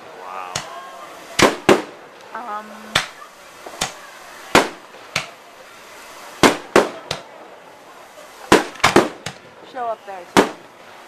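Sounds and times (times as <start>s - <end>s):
fireworks bangs: 0.5s - 7.4s, 8.2s - 10.8s.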